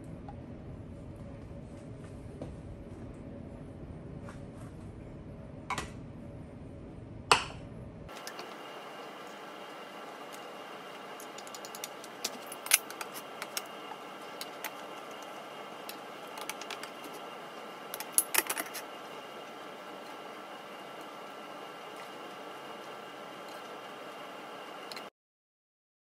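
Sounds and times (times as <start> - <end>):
faint steady hum: 0.0 - 25.1.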